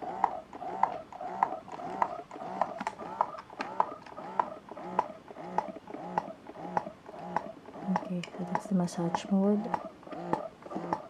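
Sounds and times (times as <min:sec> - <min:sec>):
breast pump clicking and whirring: 0:00.0 - 0:11.0.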